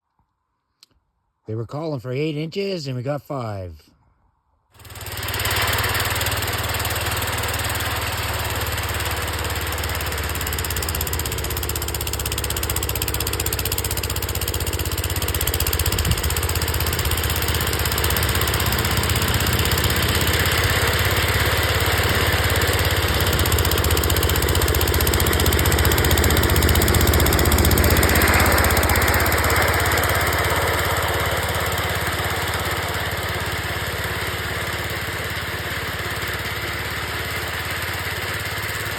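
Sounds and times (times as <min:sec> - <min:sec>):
garden tractor engine running: 0:04.8 - 0:38.9.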